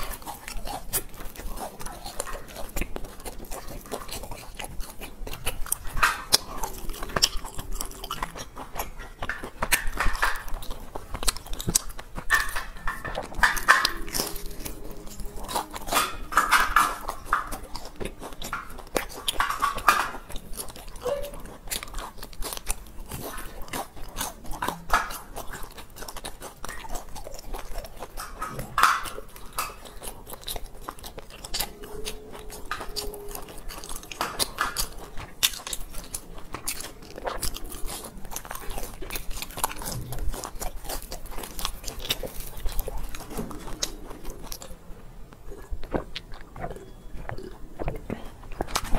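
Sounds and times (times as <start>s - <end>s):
crunchy chewing: 0.0s - 48.9s.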